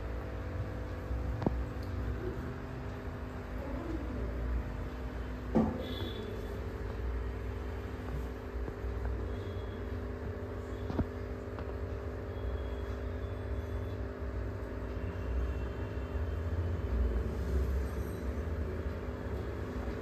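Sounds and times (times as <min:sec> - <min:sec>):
aquarium filter motor hum: 0:00.0 - 0:20.0.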